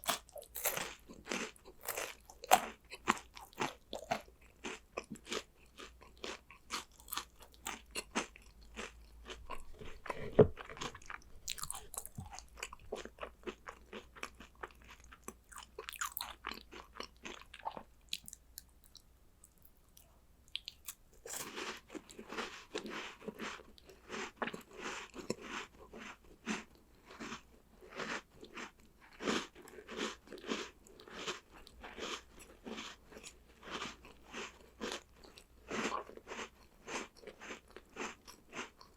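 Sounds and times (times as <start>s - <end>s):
crunchy chewing and biting: 0.0s - 19.7s, 20.5s - 38.9s.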